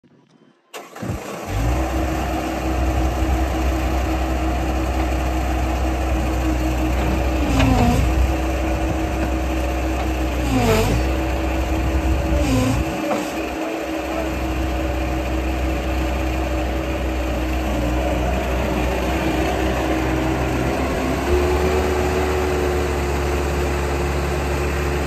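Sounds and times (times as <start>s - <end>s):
diesel engine starting and idling: 0.7s - 25.0s.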